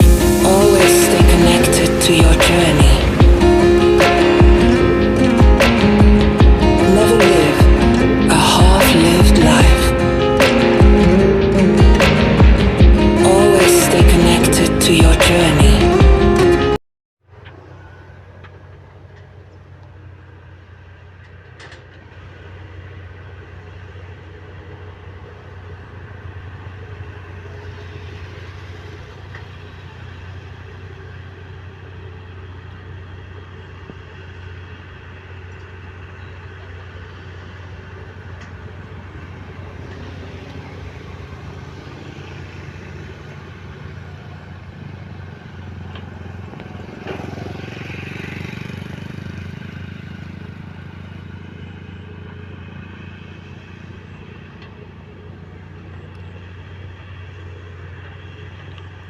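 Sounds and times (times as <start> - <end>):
diesel engines of earthmoving machines: 0.0 - 59.0.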